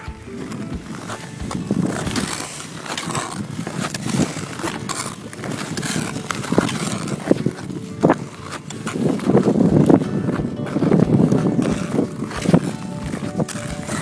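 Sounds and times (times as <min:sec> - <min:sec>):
ice skates scraping on ice: 0:00.0 - 0:14.0.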